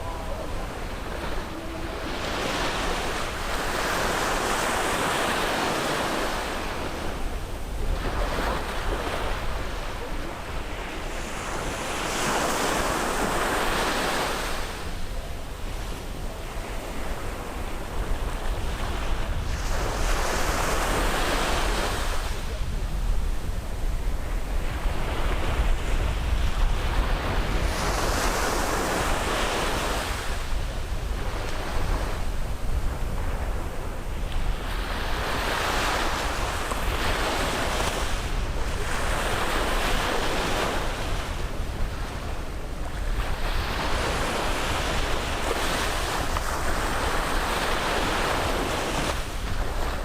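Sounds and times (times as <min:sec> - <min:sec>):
waves breaking on beach: 0:00.0 - 0:50.0
wind on microphone: 0:00.0 - 0:50.0.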